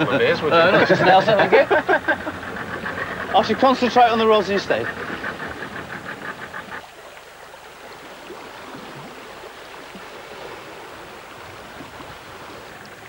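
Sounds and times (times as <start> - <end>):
water washing around boat: 0.0 - 13.0.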